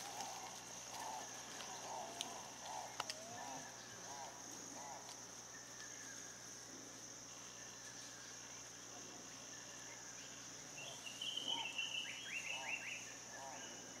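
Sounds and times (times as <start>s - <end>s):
crickets chorus: 0.0s - 14.0s.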